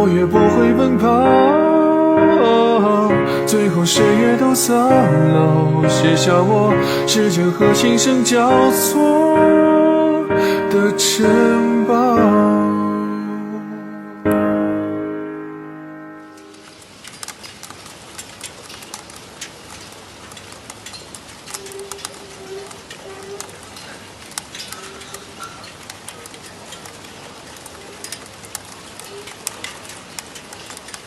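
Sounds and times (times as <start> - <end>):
rain falling: 0.0 - 14.0, 16.2 - 31.0.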